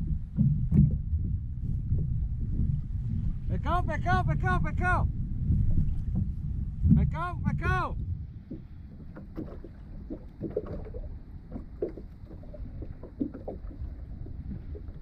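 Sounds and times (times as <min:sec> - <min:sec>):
waves slapping against kayak hull: 0:00.0 - 0:15.0
wind rumble on microphone: 0:00.0 - 0:15.0.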